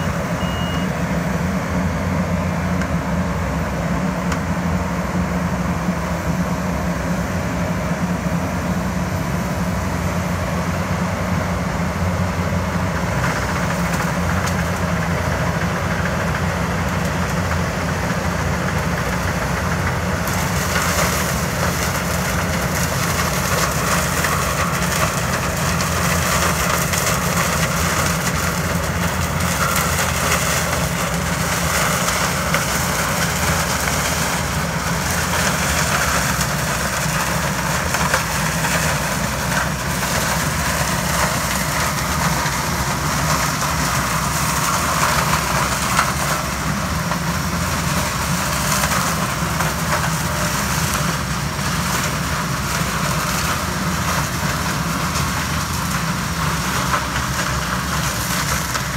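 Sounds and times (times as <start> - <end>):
harvester engine drone: 0.0 - 58.9.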